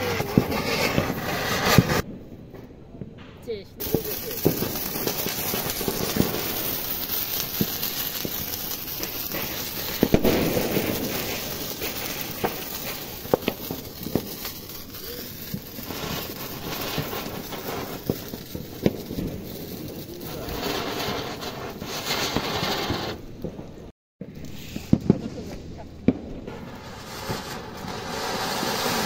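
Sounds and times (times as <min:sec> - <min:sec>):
firework fountains hissing: 0:00.0 - 0:02.1, 0:03.7 - 0:23.4, 0:24.2 - 0:29.0
firework cracks and pops: 0:00.0 - 0:29.0.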